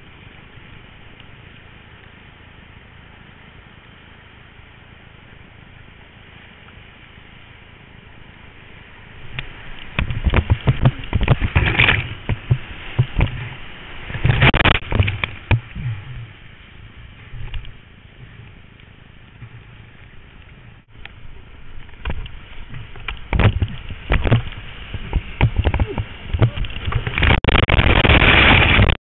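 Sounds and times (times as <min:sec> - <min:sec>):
whitewater rushing: 0:00.0 - 0:29.0
waves splashing and knocking: 0:04.8 - 0:29.0.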